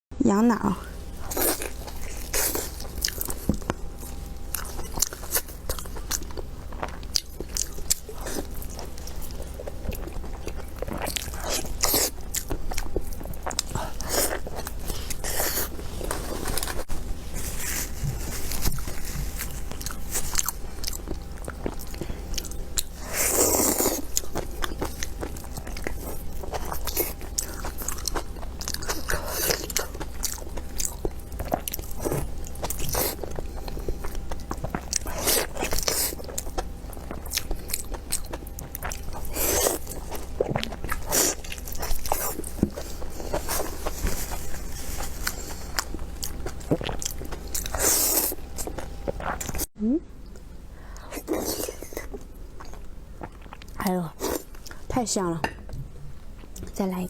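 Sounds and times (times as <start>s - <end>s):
wet chewing and biting: 1.1s - 17.0s, 17.8s - 49.7s.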